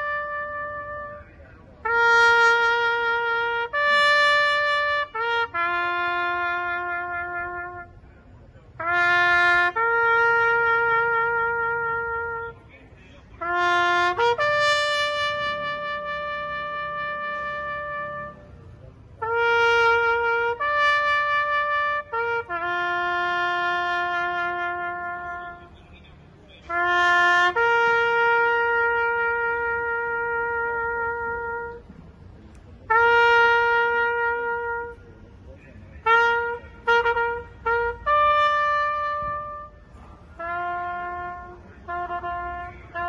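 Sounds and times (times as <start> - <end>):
solo trumpet melody: 0.0 - 8.0, 8.7 - 12.7, 13.4 - 25.8, 26.6 - 31.9, 32.8 - 35.3, 35.9 - 43.0.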